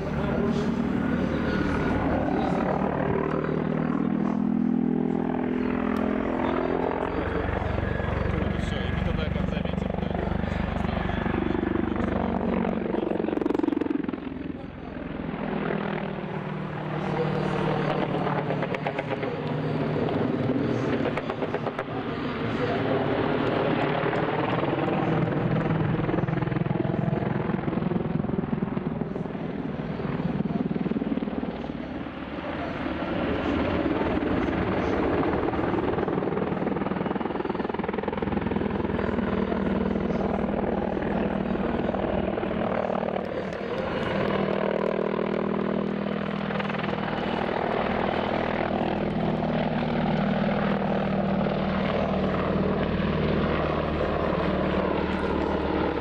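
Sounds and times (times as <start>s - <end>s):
helicopter flying past: 0.0s - 56.0s.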